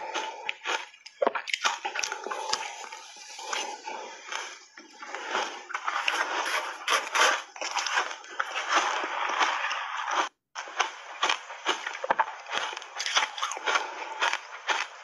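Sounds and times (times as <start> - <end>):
ice crunching while chewed: 0.0 - 15.0.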